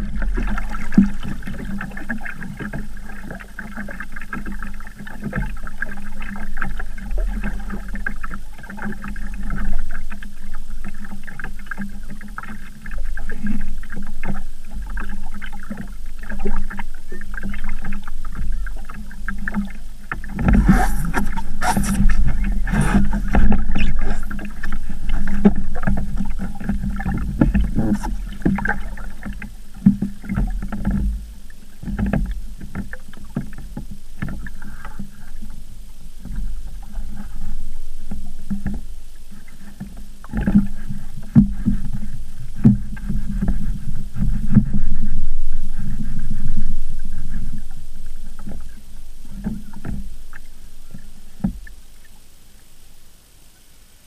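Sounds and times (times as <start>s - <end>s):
water slapping along hull: 0.0s - 54.0s.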